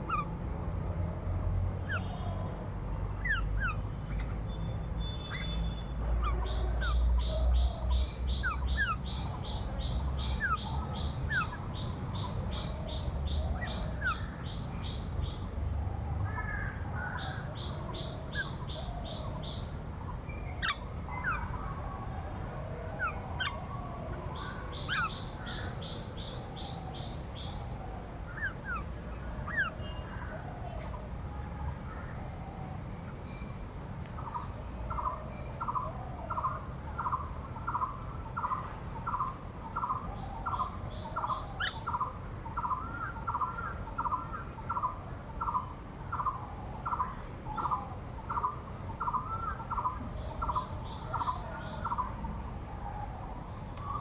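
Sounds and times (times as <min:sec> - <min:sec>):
birds calling and singing: 0:00.0 - 0:00.3, 0:01.8 - 0:02.5, 0:03.2 - 0:15.5, 0:16.3 - 0:21.9, 0:22.9 - 0:27.7, 0:28.3 - 0:31.0, 0:34.1 - 0:52.4, 0:53.8 - 0:54.0.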